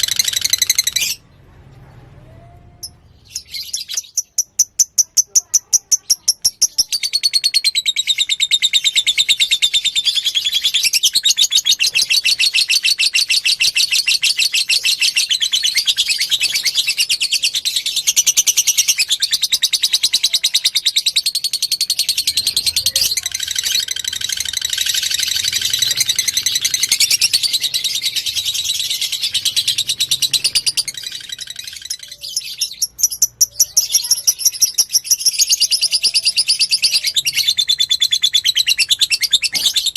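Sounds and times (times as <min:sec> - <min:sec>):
lovebird chattering trill: 0:02.8 - 0:39.9.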